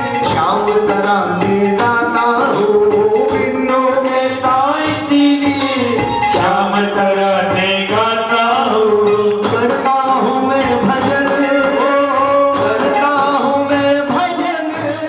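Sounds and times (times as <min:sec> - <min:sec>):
man singing devotional song: 0:00.0 - 0:15.0
tabla beat: 0:00.0 - 0:15.0.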